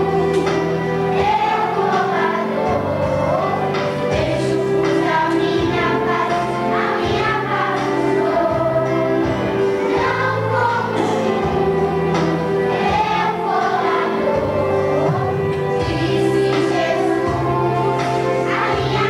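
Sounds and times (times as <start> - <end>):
children's choir singing: 0.0 - 19.0
instrumental accompaniment with bass: 0.0 - 19.0.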